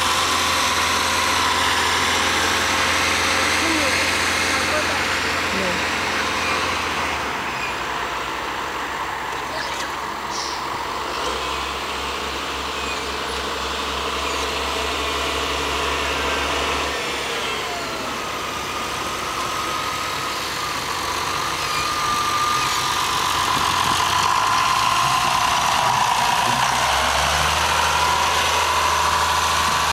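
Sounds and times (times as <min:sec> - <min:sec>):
tractor diesel engine: 0:00.0 - 0:29.9.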